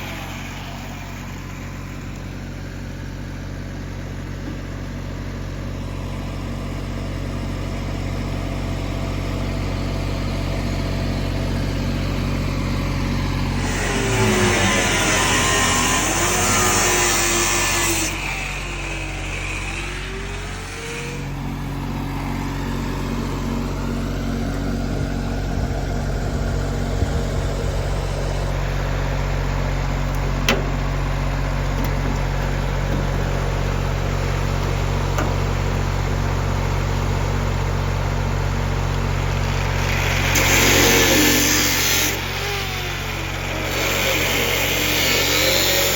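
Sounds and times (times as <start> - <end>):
engine droning: 0.0 - 45.9.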